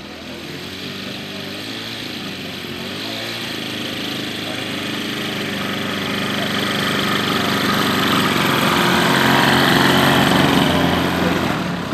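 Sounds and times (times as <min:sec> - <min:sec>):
model airplane engine running: 0:00.0 - 0:11.9.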